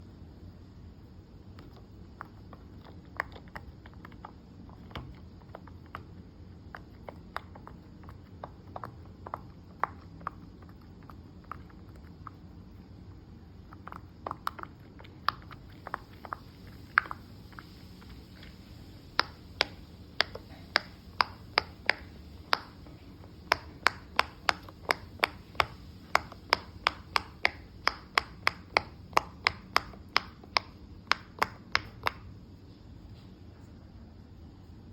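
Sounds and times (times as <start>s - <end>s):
pop-it toy bubbles popping: 1.6s - 12.5s, 13.6s - 32.3s.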